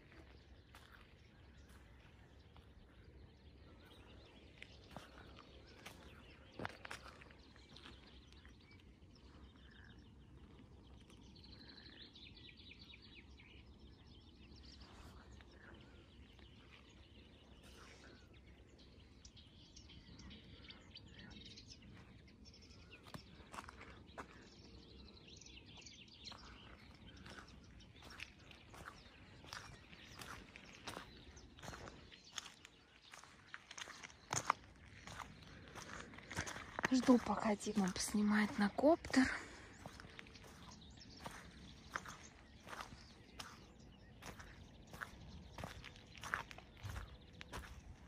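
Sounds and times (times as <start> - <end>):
faint birds chirping: 0.0 - 48.0.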